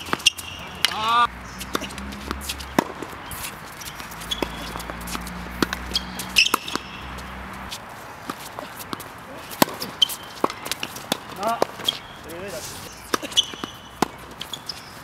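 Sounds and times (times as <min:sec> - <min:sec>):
tennis balls hit and bouncing: 0:00.0 - 0:15.0.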